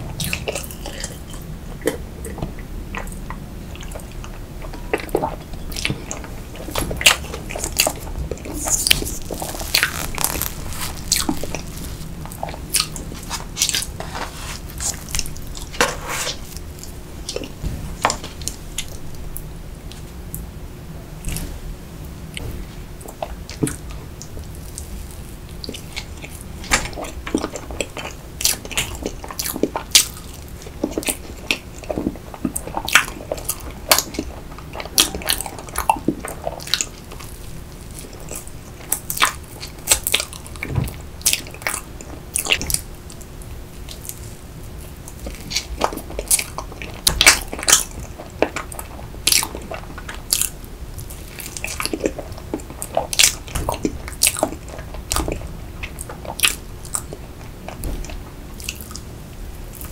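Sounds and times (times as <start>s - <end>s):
chewing with mouth clicks: 0.1s - 19.2s, 22.4s - 59.1s.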